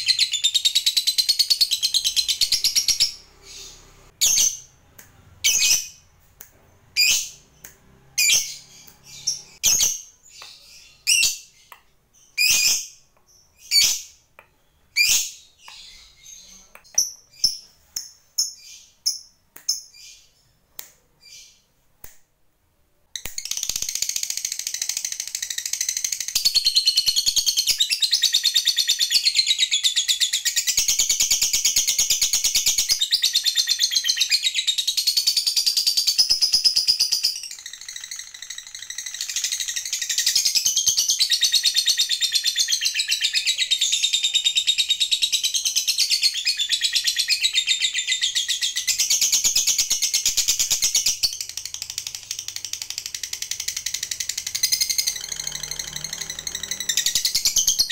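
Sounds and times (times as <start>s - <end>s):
lovebird high chirps: 0.0s - 6.1s, 6.8s - 20.5s, 21.2s - 21.7s, 23.2s - 57.9s.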